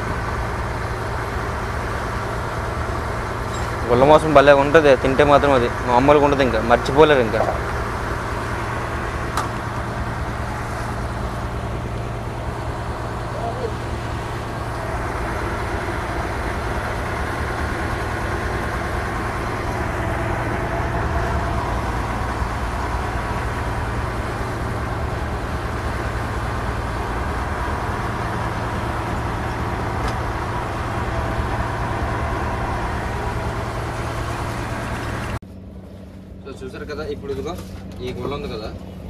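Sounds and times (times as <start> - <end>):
water wash: 0.0 - 35.4
boat engine running: 0.0 - 39.0.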